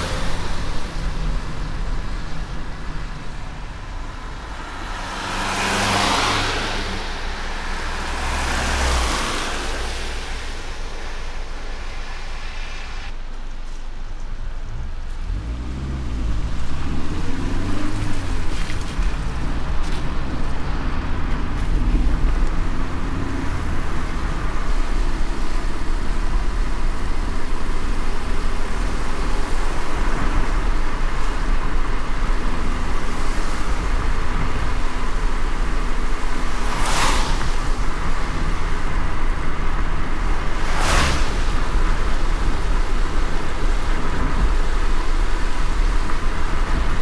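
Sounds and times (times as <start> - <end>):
car road rumble and tyre hiss: 0.0 - 47.0.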